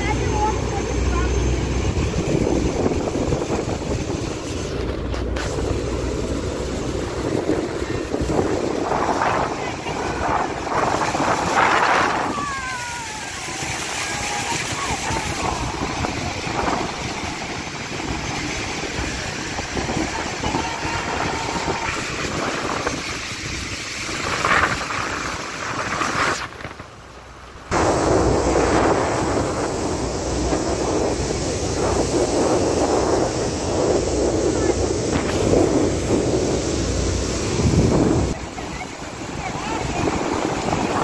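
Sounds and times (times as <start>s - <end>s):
churning water: 0.0s - 41.0s
roar of waterfall: 0.0s - 41.0s
wind buffeting microphone: 0.0s - 41.0s.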